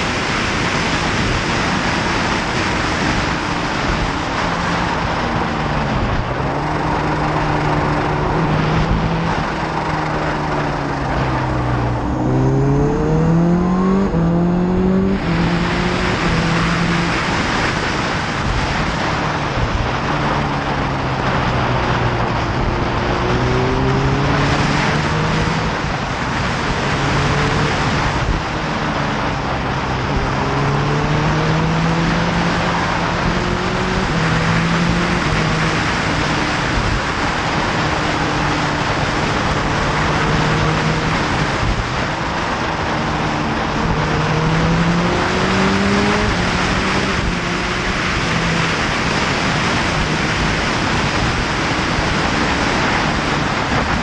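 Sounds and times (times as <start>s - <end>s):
wind rush over microphone: 0.0s - 54.0s
motorcycle engine revving: 0.7s - 54.0s.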